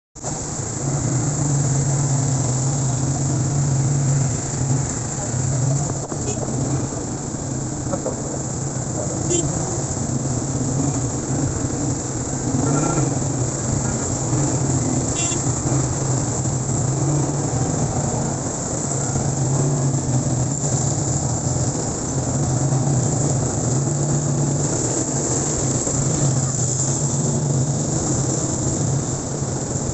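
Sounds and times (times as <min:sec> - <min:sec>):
engine hum: 0:00.2 - 0:29.9
wind and road noise: 0:00.2 - 0:29.9.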